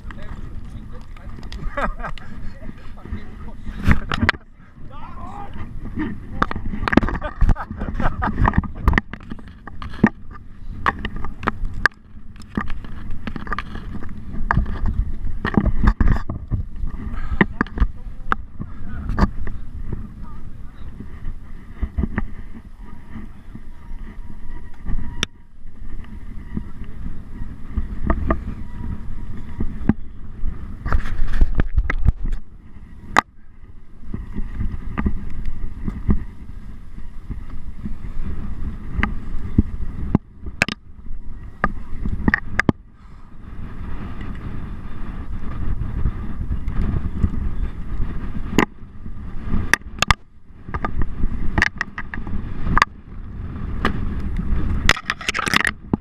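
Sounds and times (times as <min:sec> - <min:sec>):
bike knocking and rattling: 0:00.0 - 0:56.0
mountain bike riding over rough ground: 0:00.0 - 0:56.0
wind buffeting microphone: 0:00.0 - 0:56.0.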